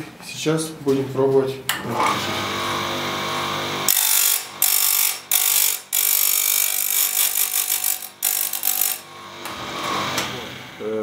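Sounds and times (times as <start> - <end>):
grinding wheel grinding metal: 2.0 - 10.8
electric motor running: 2.0 - 11.0.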